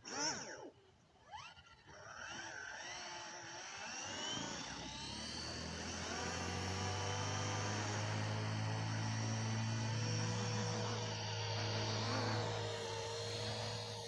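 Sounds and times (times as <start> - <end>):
toy helicopter motor whining: 0.0 - 14.0.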